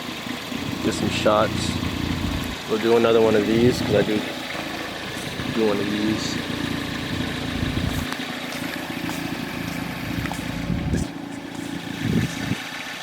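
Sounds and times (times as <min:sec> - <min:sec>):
car engine idling: 0:00.0 - 0:12.7.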